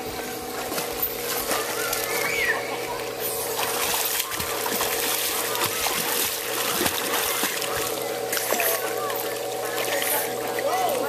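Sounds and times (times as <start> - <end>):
water splashing from swimming: 0.0 - 11.0.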